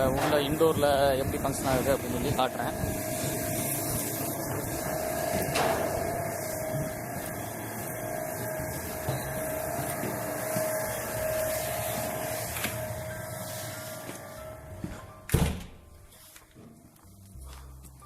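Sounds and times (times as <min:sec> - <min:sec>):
air conditioning machinery whirring: 0:00.0 - 0:18.0.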